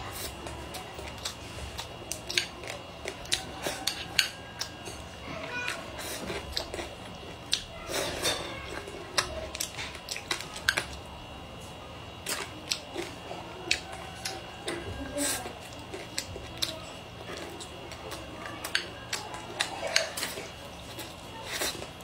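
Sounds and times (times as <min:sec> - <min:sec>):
close-up chewing: 0:00.0 - 0:11.3, 0:12.1 - 0:22.0.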